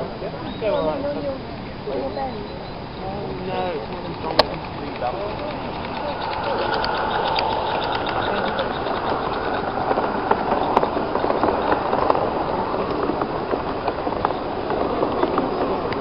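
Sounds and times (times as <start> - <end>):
model train wheels rumbling: 3.0 - 16.0.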